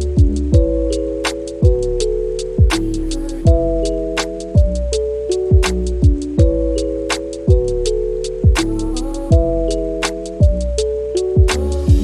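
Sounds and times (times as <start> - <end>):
deep kick drum: 0.0 - 1.0, 1.6 - 6.8, 7.5 - 10.8, 11.4 - 12.0
held synth chords: 0.0 - 12.0
ticking hi-hats: 0.0 - 12.0.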